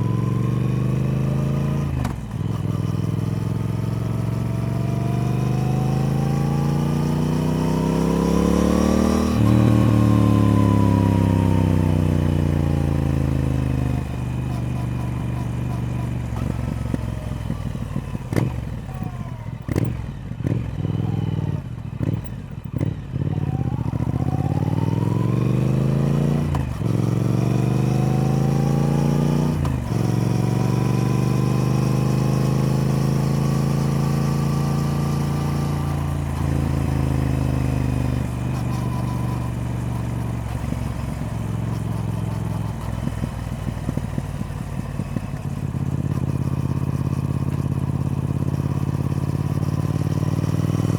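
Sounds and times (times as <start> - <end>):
motorcycle engine under way: 0.0 - 50.9.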